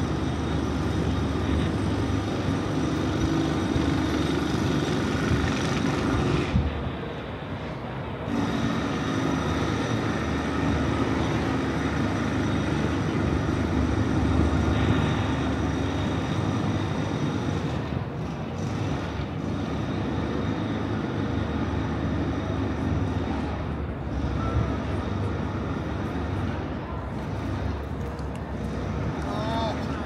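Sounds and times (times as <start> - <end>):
city background rumble: 0.0 - 30.0.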